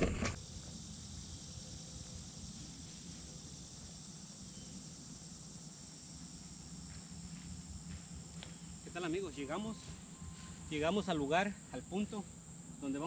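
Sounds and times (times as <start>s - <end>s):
insects droning in grass: 0.0s - 13.0s.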